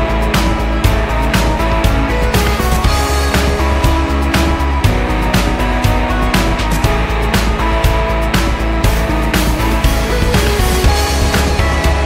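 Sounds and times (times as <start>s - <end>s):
background music with heavy bass: 0.0s - 12.0s.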